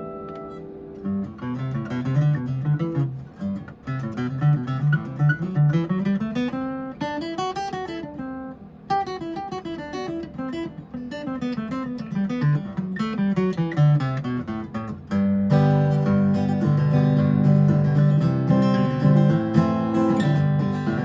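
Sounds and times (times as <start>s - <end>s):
acoustic guitar picked notes: 0.0s - 21.0s.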